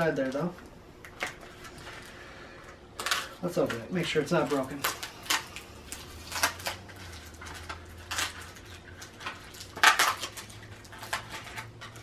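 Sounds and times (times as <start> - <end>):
packaging clicks: 0.3 - 12.0.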